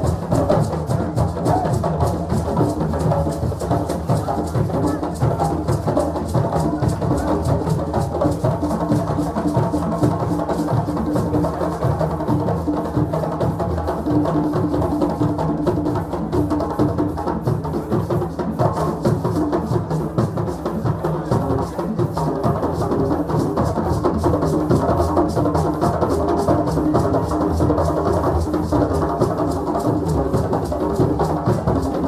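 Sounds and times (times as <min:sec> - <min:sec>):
drums playing fast rhythm: 0:00.0 - 0:32.0.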